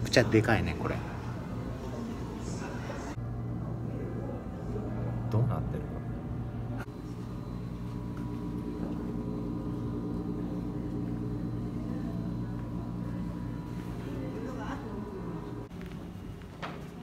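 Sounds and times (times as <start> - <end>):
low hum of held tones: 0.0 - 17.0.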